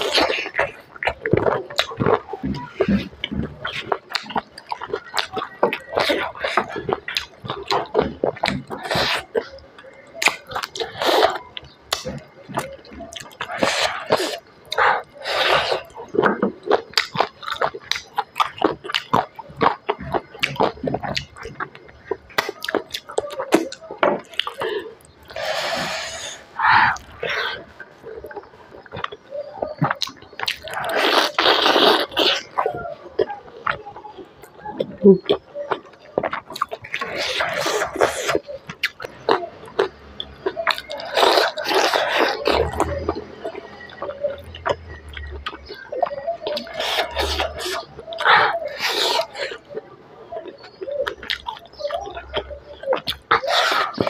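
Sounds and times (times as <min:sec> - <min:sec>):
biting into chicken: 0:00.0 - 0:54.0
close chewing mouth smacks: 0:00.0 - 0:54.0.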